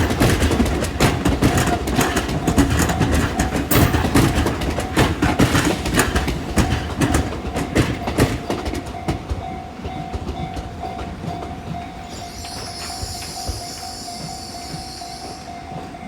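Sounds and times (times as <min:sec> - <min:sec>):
train wheels clacking over rail joints: 0:00.0 - 0:16.0.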